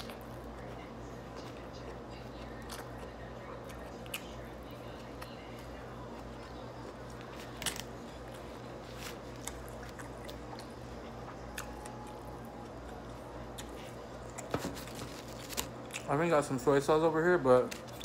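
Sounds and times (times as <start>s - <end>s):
mouth chewing food: 0.0s - 16.1s
steady low hum: 0.0s - 18.0s.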